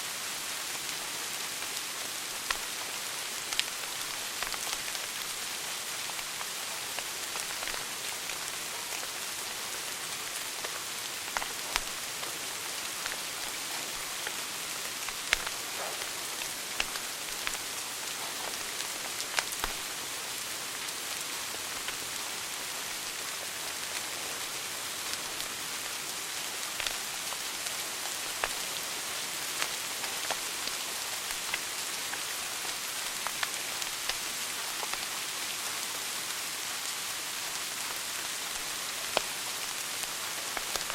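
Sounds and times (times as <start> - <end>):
wood fire crackling: 1.5 - 25.6, 26.6 - 35.2, 37.8 - 40.9.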